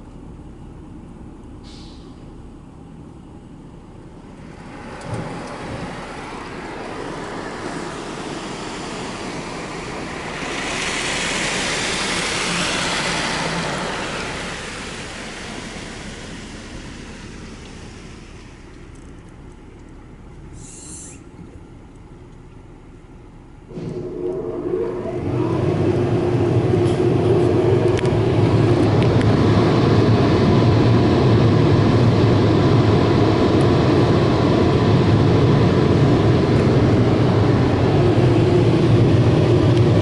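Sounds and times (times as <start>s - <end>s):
car wash water and machinery: 0.0s - 40.0s.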